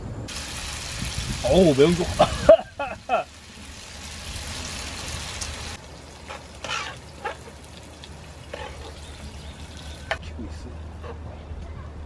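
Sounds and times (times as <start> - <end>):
pasta sizzling in grill pan: 0.3 - 10.2.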